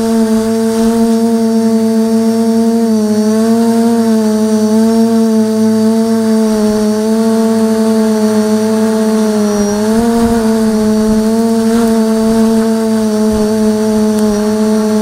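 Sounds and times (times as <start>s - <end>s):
drone propellers droning: 0.0s - 15.0s.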